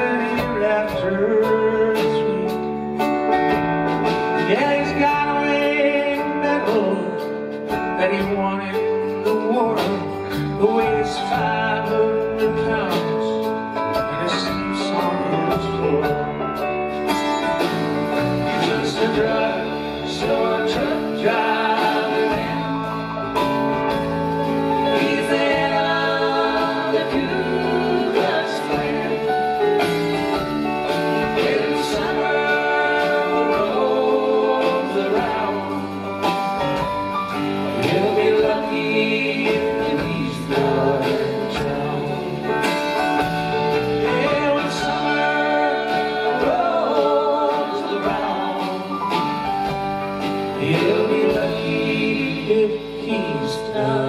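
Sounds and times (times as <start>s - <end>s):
person singing: 0.0s - 3.5s, 4.1s - 17.1s, 17.7s - 54.0s
live country-rock band: 0.0s - 54.0s.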